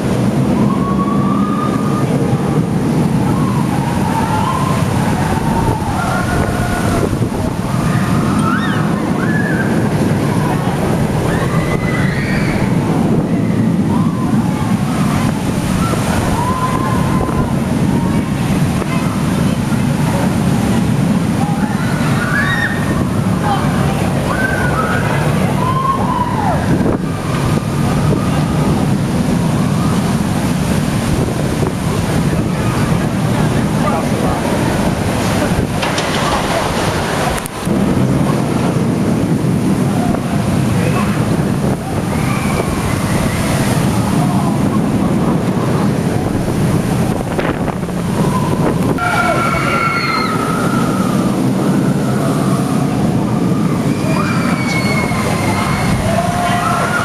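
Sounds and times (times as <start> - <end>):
high wavering voices: 0.0 - 57.0
roller coaster rushing roar: 0.0 - 57.0
wind buffeting microphone: 0.0 - 57.0.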